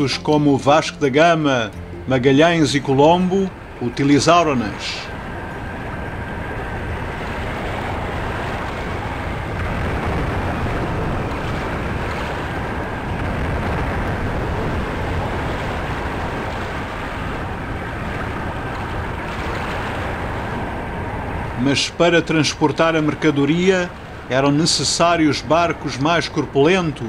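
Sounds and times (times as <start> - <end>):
sea rushing: 0.0 - 27.0
wind: 0.0 - 27.0.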